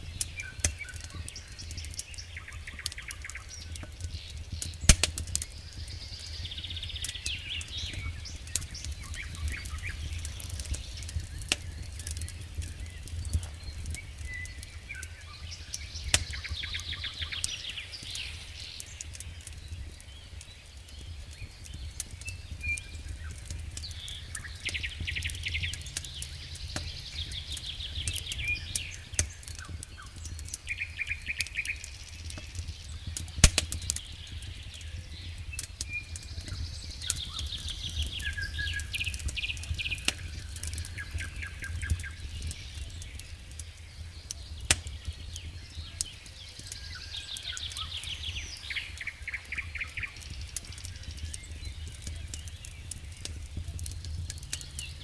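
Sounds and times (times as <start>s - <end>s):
campfire crackling and popping: 0.0s - 55.0s
songbirds trilling: 0.0s - 55.0s.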